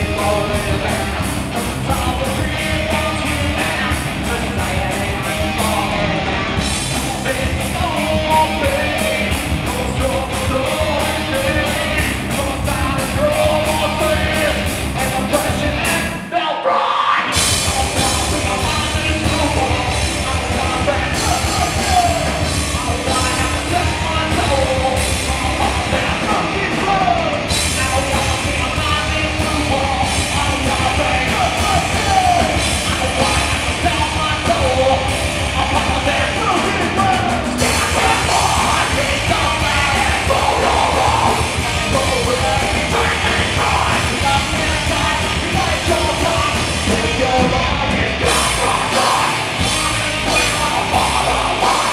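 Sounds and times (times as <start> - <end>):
rock drums: 0.0 - 16.4, 17.1 - 51.9
distorted guitars: 0.0 - 51.9
person shouting and singing: 0.0 - 51.9.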